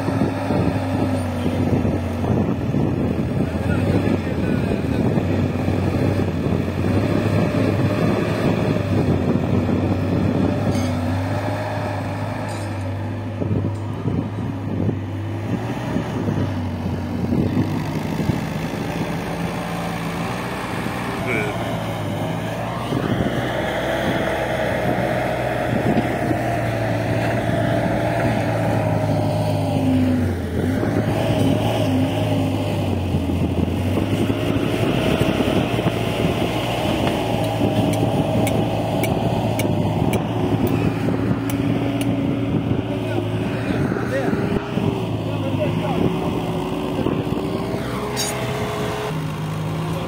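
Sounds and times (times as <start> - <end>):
loader diesel engine running: 0.0 - 50.0.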